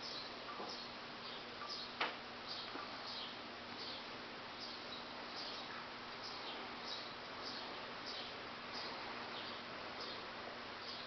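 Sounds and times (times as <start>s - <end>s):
fan motor hum: 0.0s - 11.0s.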